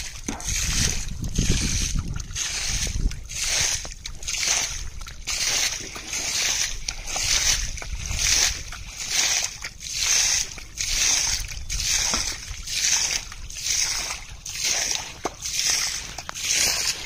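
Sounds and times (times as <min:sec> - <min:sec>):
pond water sloshing and splashing: 0:00.0 - 0:17.0.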